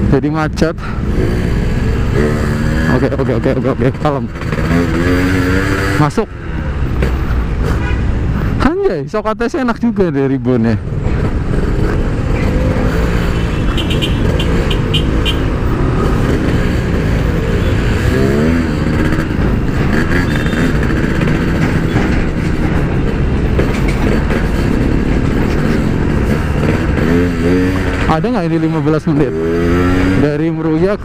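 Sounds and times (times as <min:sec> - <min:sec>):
motorcycle engine revving: 0:00.8 - 0:07.8, 0:10.8 - 0:31.0.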